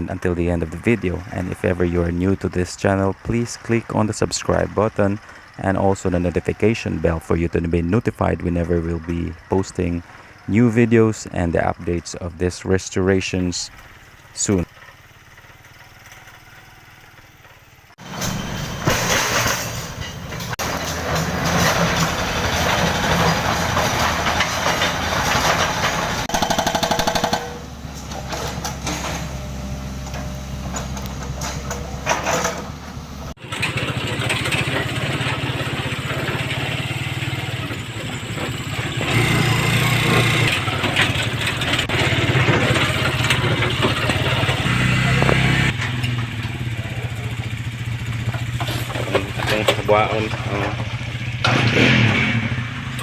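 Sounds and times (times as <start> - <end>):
road noise: 0.0 - 53.0
vehicle engine running: 0.0 - 53.0.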